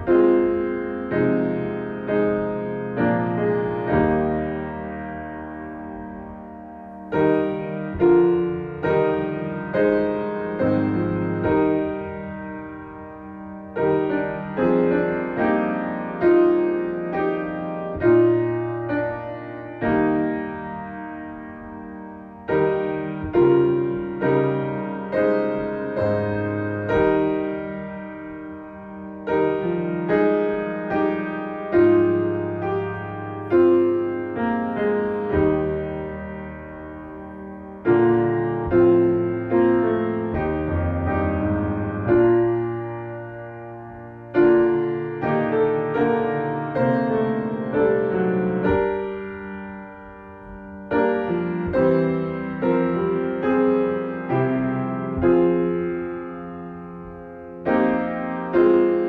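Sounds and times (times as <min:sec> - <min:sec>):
piano playing slow hymn chords: 0:00.0 - 0:59.0.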